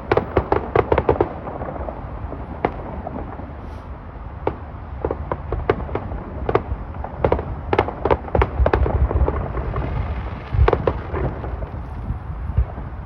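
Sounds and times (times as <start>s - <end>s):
distant fireworks bangs and pops: 0.0s - 3.6s, 4.3s - 13.0s.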